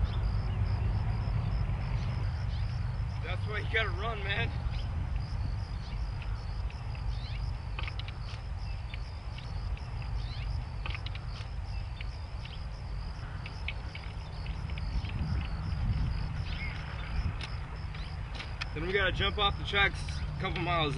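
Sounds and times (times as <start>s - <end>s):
high insect trill: 0.0s - 20.9s
wind rumble on microphone: 0.0s - 20.9s.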